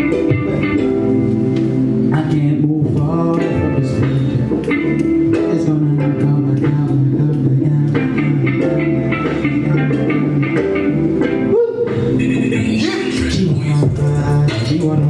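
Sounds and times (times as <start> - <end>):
music with bass and plucked guitar: 0.0 - 15.0.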